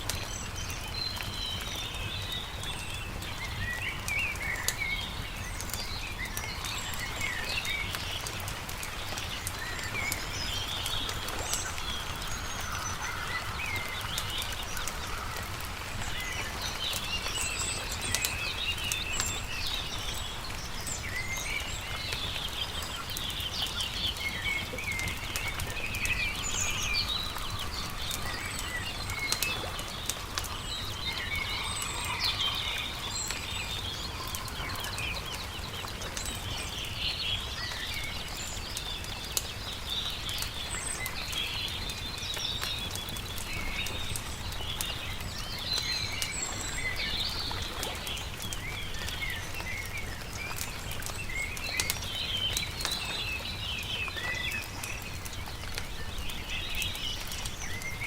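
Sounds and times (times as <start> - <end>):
campfire crackling and popping: 0.0 - 58.0
songbirds chirping and warbling: 0.0 - 58.0.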